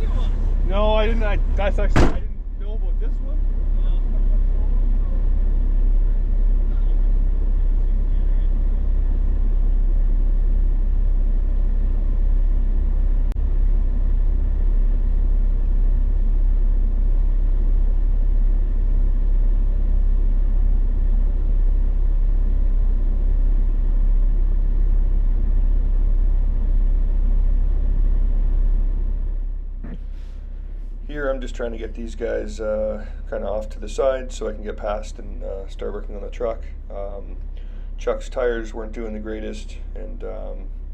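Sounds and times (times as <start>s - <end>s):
vehicle engine rumbling: 0.0s - 40.9s.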